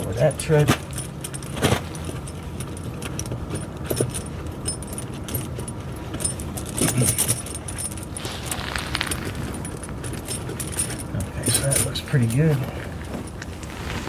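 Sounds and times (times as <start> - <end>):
tire chain links clinking: 0.4 - 14.0.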